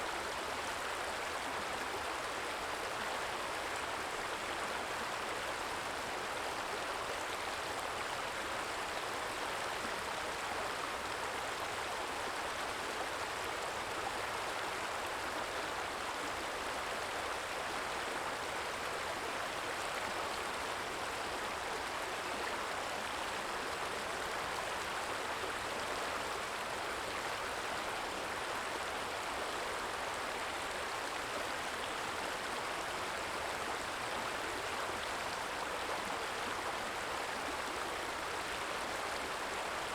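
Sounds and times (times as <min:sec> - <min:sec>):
small stream trickling: 0:00.0 - 0:39.9.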